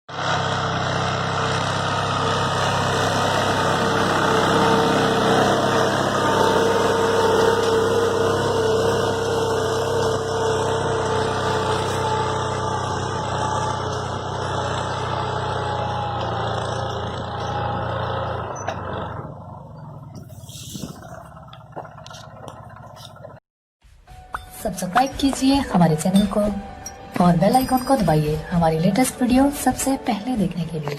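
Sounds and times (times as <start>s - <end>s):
tractor diesel engine running: 0.1s - 23.4s, 24.7s - 30.9s.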